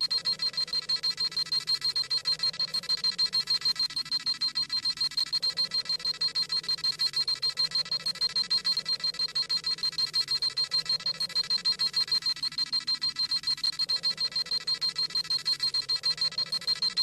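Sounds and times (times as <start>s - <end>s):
rapid high electronic beeping: 0.0s - 17.0s.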